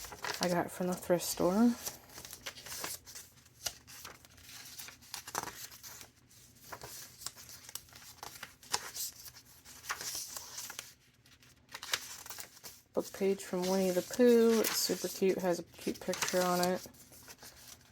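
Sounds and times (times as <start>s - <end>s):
paper pages turning: 0.0s - 17.9s.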